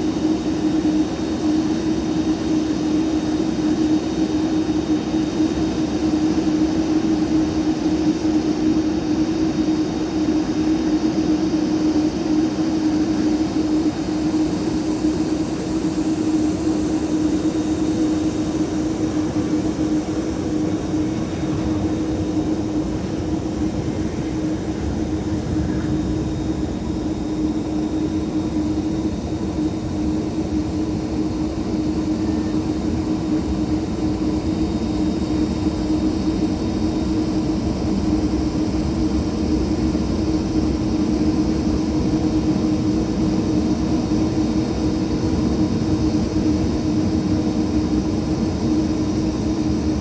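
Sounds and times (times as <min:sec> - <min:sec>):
jet engines droning: 0:00.0 - 0:50.0.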